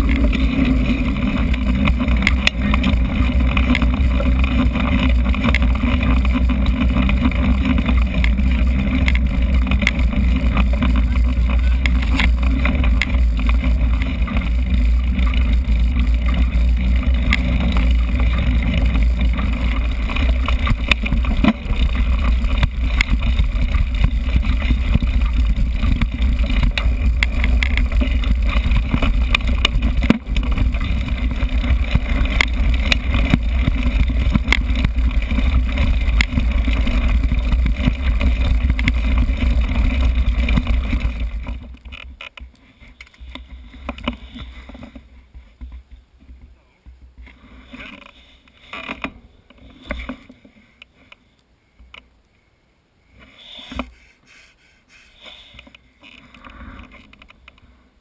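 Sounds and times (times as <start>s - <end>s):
bike rattles and clicks: 0.0s - 52.1s, 55.0s - 58.0s
bike tyre noise: 0.0s - 52.2s, 53.1s - 58.0s.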